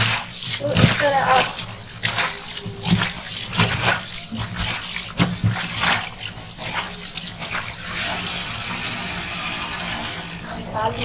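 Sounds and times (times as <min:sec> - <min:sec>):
cloth squeezed and scrubbed: 0:00.0 - 0:10.6
tap water running into sink: 0:00.0 - 0:11.0.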